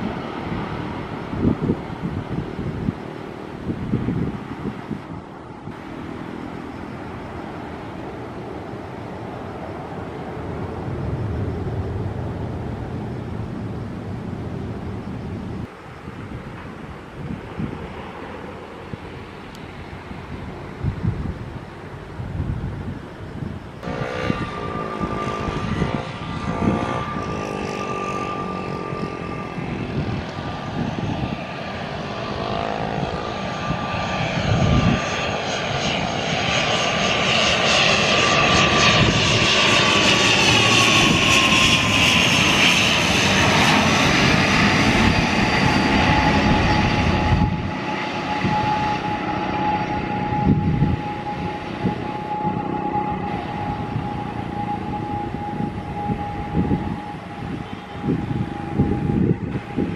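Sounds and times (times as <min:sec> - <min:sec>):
propeller airliner droning past: 0:00.0 - 0:59.9.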